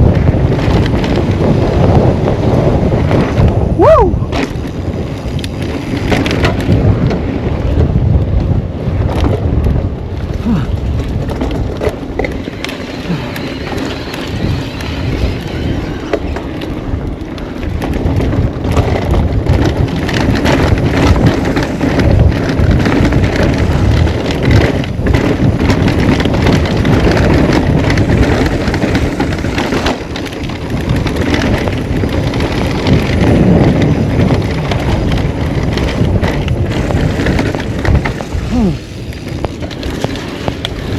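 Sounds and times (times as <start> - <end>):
bike clicks and rattles: 0.0 - 40.9
wind roaring over microphone: 0.0 - 40.9.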